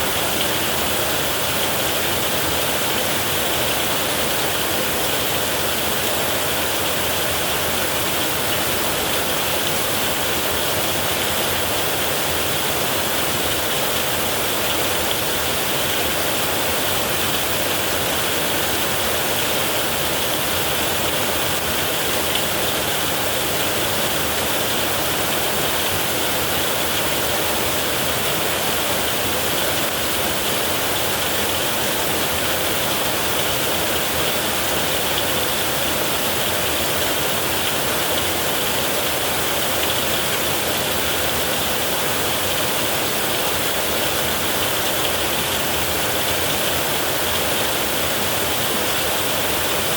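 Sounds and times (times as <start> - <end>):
heavy rain on a metal roof: 0.0 - 49.9.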